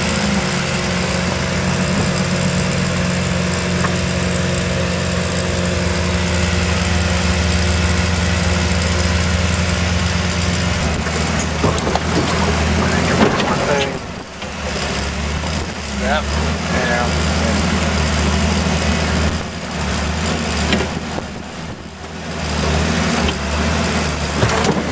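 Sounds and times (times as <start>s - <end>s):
car engine running at low revs: 0.0s - 24.9s.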